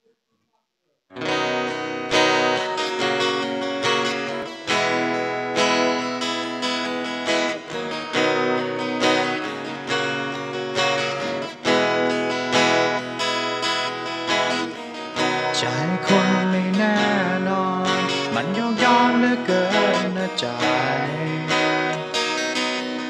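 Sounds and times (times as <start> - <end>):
acoustic guitar strumming chords: 1.2 - 23.0.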